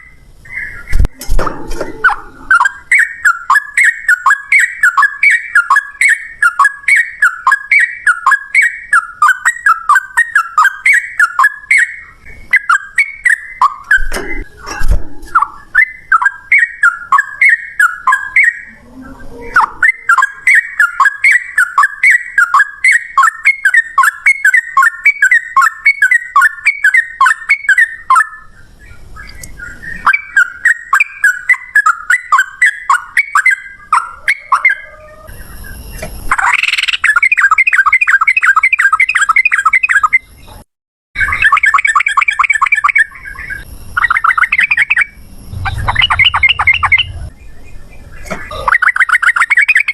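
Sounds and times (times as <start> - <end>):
bird singing chattering notes: 2.0 - 18.7, 19.5 - 40.5, 41.2 - 49.9.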